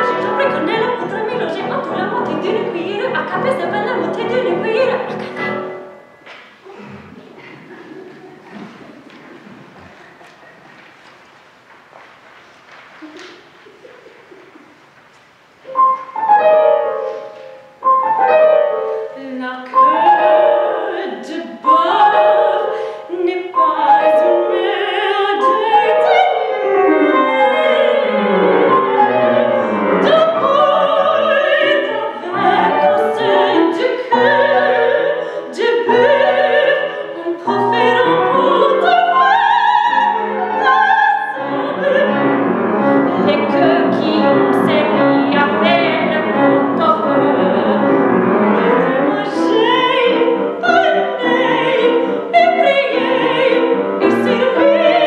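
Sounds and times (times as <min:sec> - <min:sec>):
soprano singing: 0:00.0 - 0:06.2, 0:15.7 - 0:55.0
grand piano accompaniment: 0:00.0 - 0:55.0.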